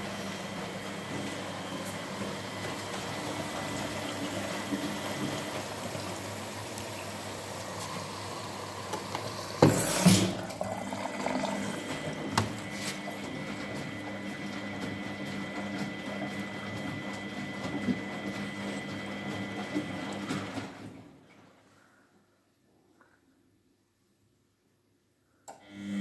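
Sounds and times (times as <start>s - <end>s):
washing machine water sloshing: 0.0s - 21.2s.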